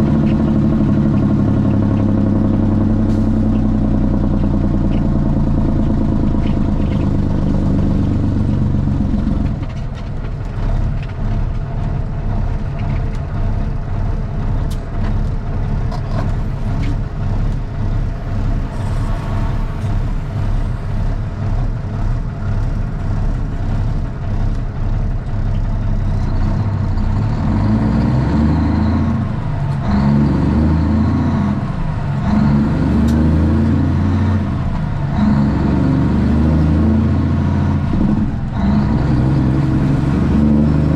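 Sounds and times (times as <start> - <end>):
diesel semi truck engine: 0.0 - 40.9.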